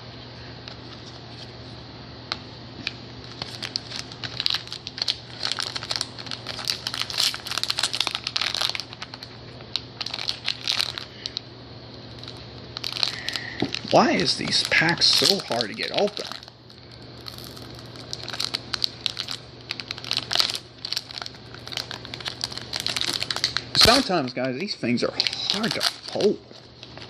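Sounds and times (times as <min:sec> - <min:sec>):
card pack wrapper crinkling: 0:03.2 - 0:11.4, 0:12.2 - 0:24.5, 0:25.2 - 0:27.0.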